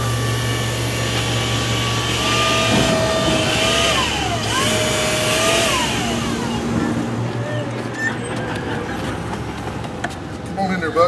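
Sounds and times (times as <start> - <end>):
forklift motor whining: 0.0 - 9.6.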